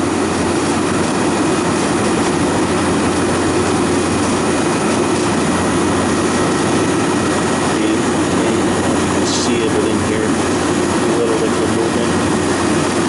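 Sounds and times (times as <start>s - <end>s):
condensing unit hum: 0.0s - 13.0s.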